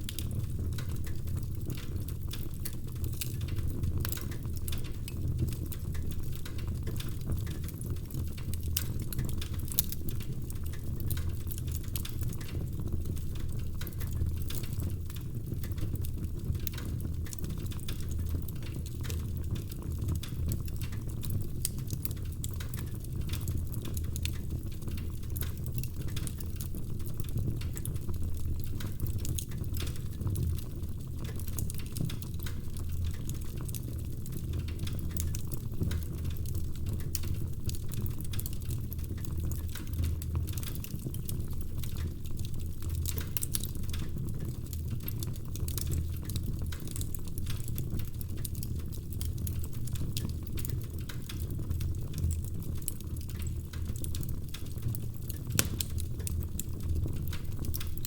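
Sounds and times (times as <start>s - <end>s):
wood fire crackling in fireplace: 0.0s - 58.0s.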